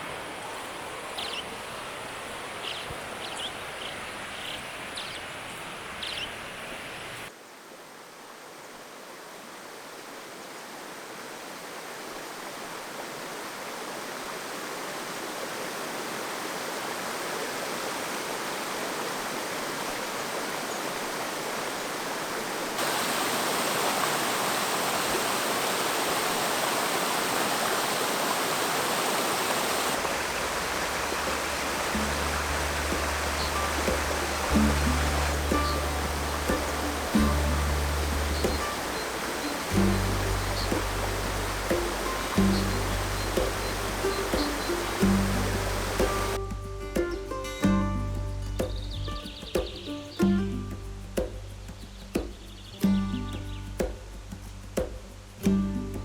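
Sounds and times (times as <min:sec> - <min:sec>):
stream water flowing: 0:00.0 - 0:48.4.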